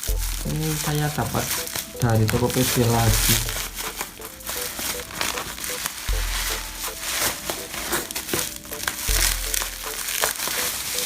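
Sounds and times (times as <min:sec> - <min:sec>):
faint background music: 0:00.0 - 0:11.0
packaging crinkling: 0:00.0 - 0:11.0.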